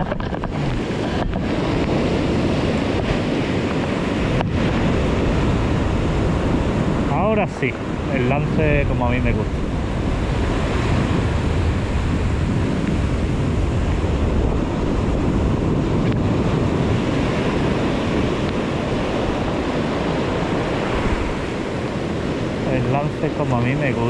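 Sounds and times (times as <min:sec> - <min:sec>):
waves breaking on shore: 0:00.0 - 0:24.0
wind rumbling on microphone: 0:00.0 - 0:24.0.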